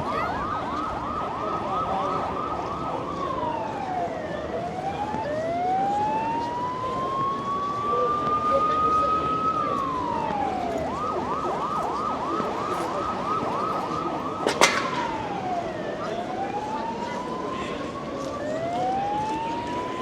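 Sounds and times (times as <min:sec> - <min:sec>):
emergency siren wailing and yelping: 0:00.0 - 0:20.0.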